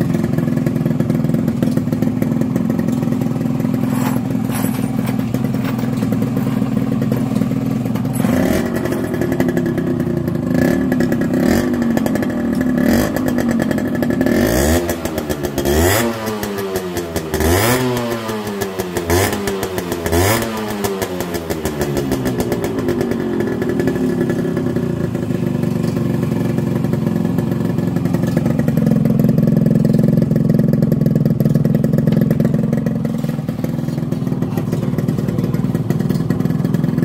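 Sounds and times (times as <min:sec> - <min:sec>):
motorcycle engine revving and idling: 0:00.0 - 0:37.0.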